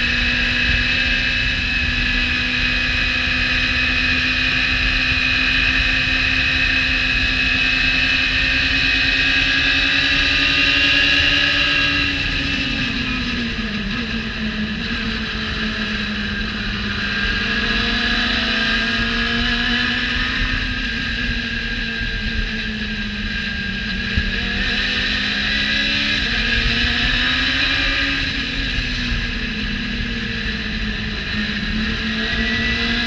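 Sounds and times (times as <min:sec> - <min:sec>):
race car engine at speed: 0:00.0 - 0:33.0.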